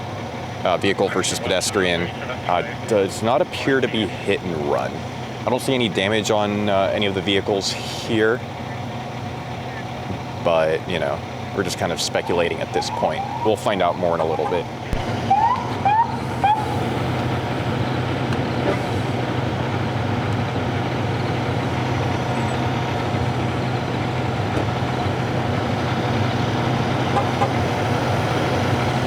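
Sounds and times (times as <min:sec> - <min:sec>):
large vehicle engine hum: 0:00.0 - 0:29.0
traffic noise: 0:00.0 - 0:29.0.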